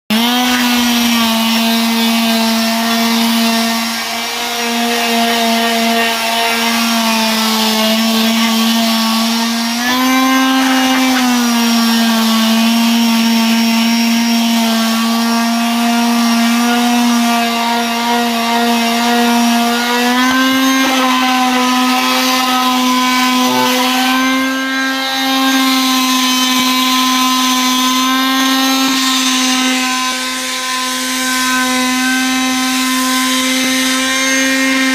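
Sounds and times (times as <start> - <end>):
electric sander whine: 0.1 - 34.9.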